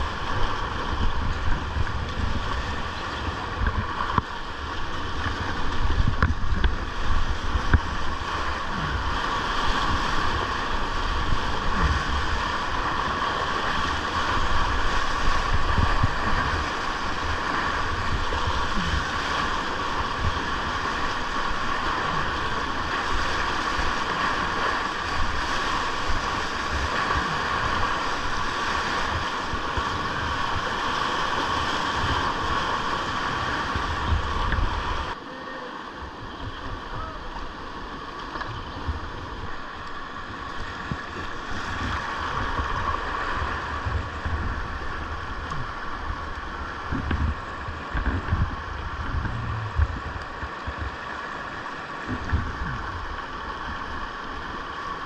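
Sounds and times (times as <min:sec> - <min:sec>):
wind rumbling on microphone: 0:00.0 - 0:35.2, 0:35.8 - 0:55.0
rushing whitewater: 0:00.0 - 0:55.0.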